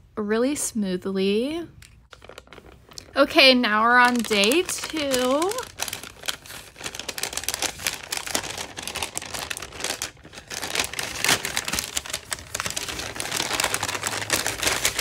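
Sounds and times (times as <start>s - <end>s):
paper bag crinkling and rustling: 2.1s - 15.0s.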